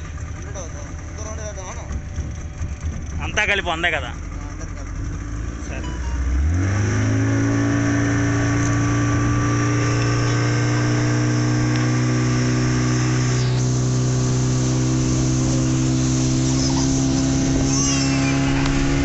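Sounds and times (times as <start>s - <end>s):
speedboat engine throttling up: 0.0s - 19.0s.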